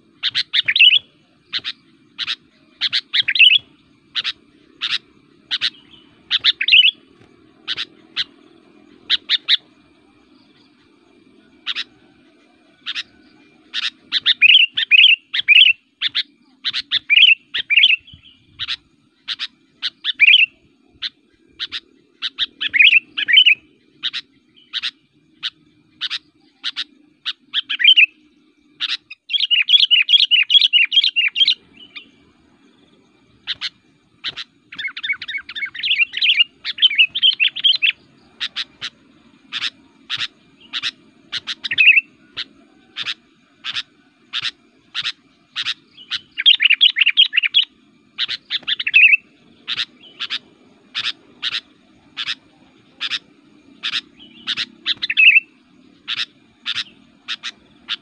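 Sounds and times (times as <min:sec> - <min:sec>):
bird chirping and warbling: 0:00.0 - 0:58.0.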